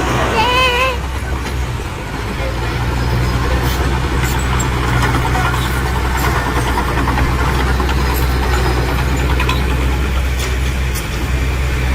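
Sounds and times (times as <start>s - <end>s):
heavy diesel engine humming: 0.0s - 11.9s.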